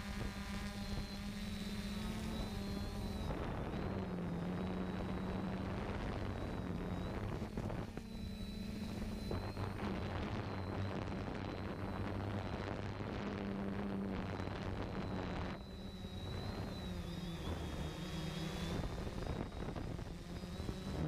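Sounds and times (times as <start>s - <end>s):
drone propellers humming and whining: 0.0s - 21.0s.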